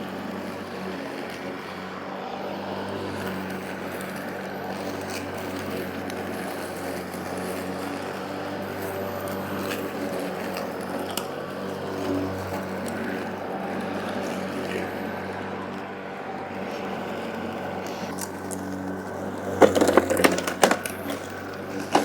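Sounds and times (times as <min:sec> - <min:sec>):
electric lawn mower running: 0:00.0 - 0:22.0.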